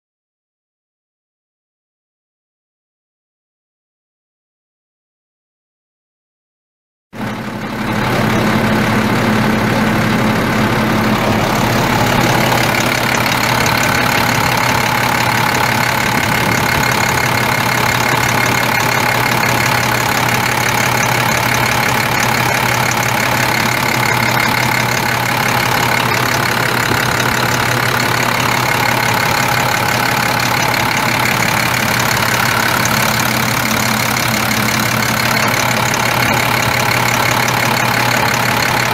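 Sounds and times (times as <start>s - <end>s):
diesel truck idling: 7.2s - 38.9s.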